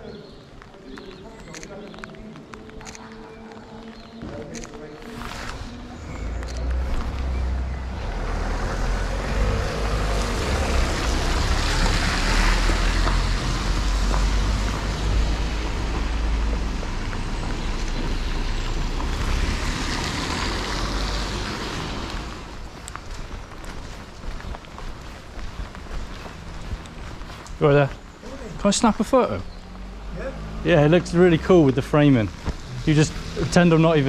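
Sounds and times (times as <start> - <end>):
tyres hissing on wet road: 5.2 - 34.0.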